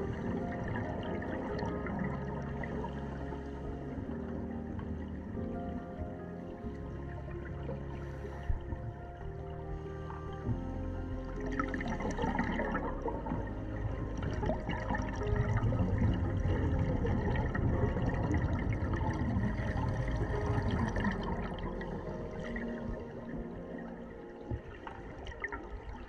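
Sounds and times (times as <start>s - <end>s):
underwater air bubbles gurgling: 0.0s - 26.0s.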